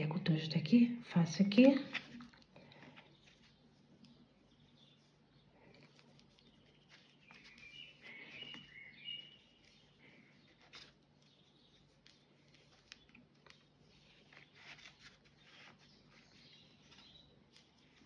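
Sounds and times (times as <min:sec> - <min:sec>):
cord rustling and clicking: 0:01.6 - 0:18.0.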